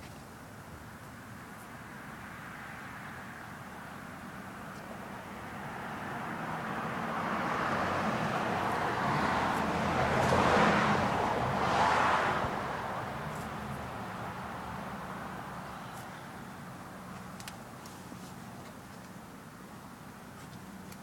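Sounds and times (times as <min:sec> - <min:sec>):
passing vehicles: 0:00.0 - 0:21.0.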